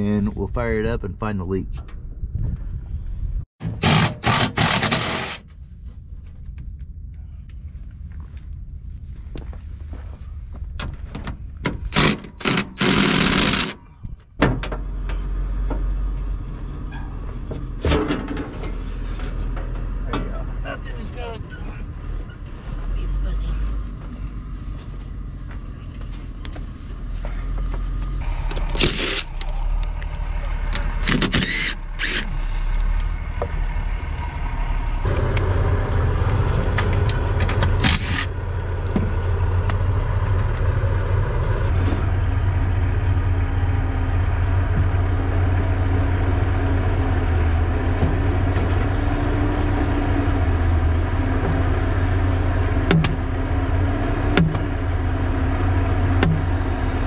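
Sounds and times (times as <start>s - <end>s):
bulldozer diesel engine drone: 0.0s - 57.0s.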